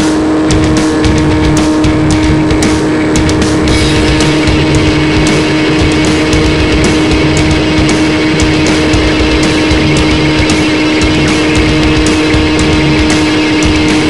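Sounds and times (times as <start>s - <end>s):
wind rush: 0.0s - 14.0s.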